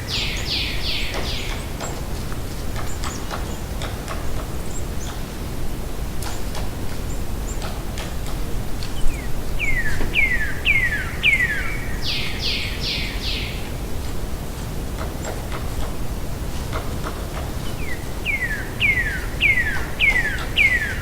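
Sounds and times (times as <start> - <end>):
distant woodpecker calling: 0.0 - 5.3, 6.3 - 14.0, 16.7 - 21.0
outdoor background noise: 0.0 - 21.0.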